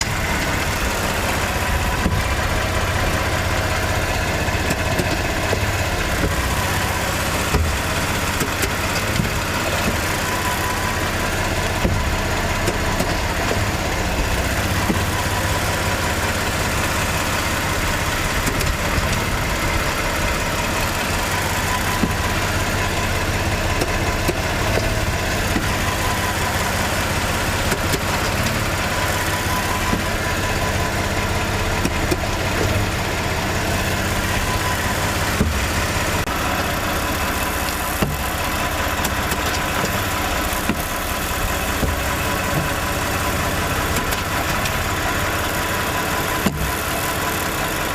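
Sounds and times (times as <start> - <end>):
sharp clunking knocks: 0.0 - 45.4, 46.3 - 47.0
car engine running: 0.0 - 47.9.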